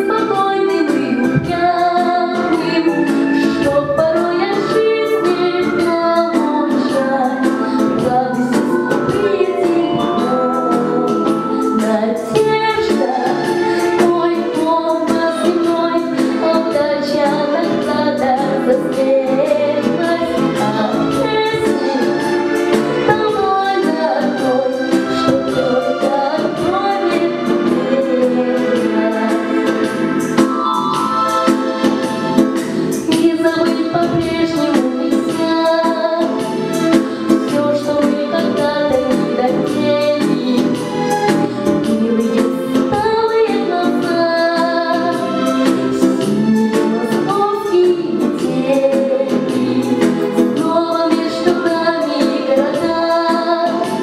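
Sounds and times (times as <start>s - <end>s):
girl singing into microphone: 0.0s - 31.2s, 32.8s - 54.0s
instrumental backing track: 0.0s - 54.0s.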